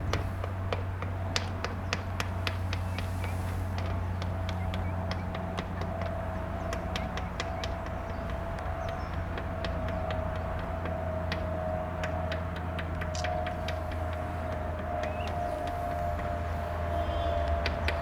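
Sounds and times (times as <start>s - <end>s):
propeller plane droning in flight: 0.0s - 18.0s.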